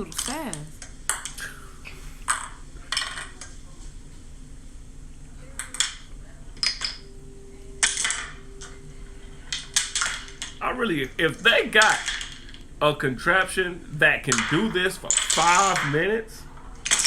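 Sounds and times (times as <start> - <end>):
faint steady tone: 0.0 - 17.0.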